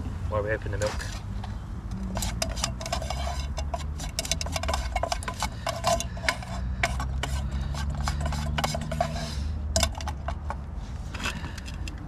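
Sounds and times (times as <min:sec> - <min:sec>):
spatula scraping frying pan: 0:00.8 - 0:10.6.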